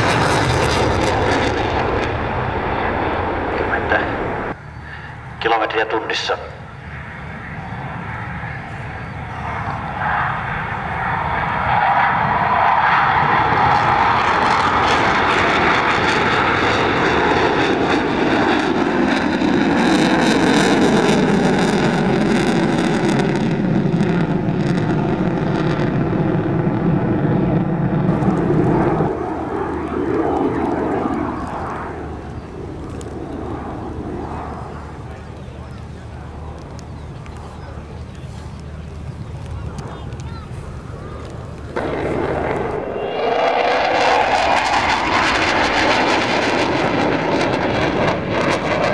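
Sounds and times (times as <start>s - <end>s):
airplane flying past: 0.0s - 48.9s.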